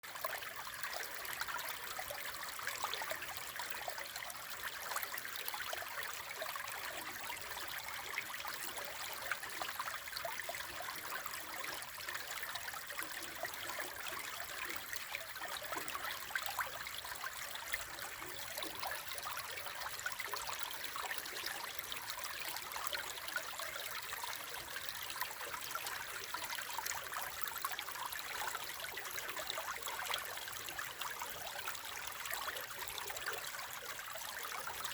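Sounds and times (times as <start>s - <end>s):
brook babbling: 0.0s - 34.9s.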